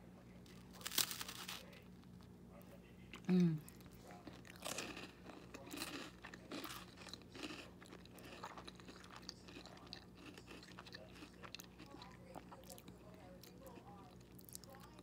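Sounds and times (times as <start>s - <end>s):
person chewing toast: 0.5s - 2.3s, 3.1s - 15.0s.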